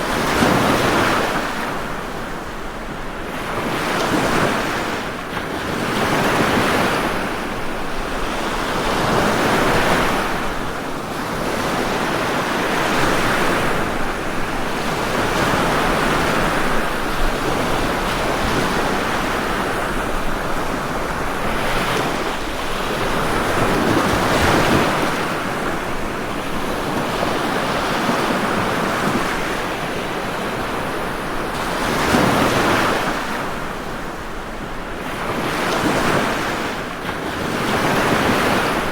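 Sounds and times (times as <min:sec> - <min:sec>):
ocean waves breaking: 0:00.0 - 0:38.9
wind: 0:00.0 - 0:38.9.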